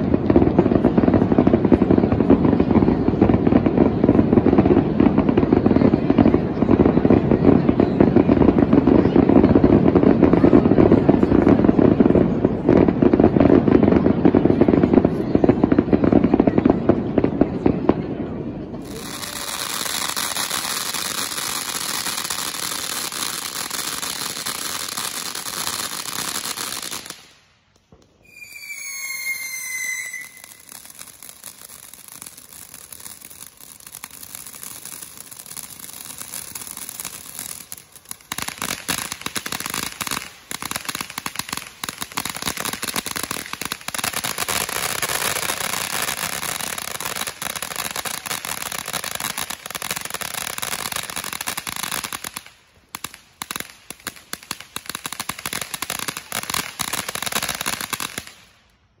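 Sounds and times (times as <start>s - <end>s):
firework fountain crackling: 0.0s - 59.0s.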